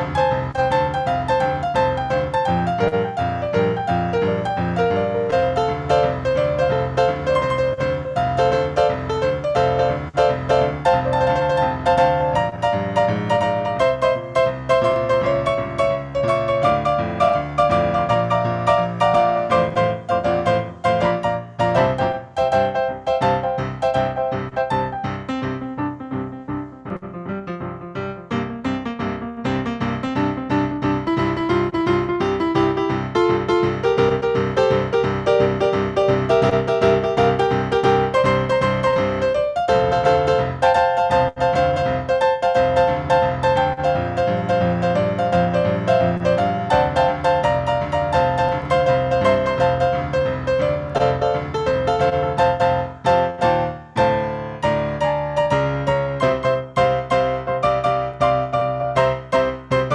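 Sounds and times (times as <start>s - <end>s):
solo piano playing: 0.0s - 59.9s.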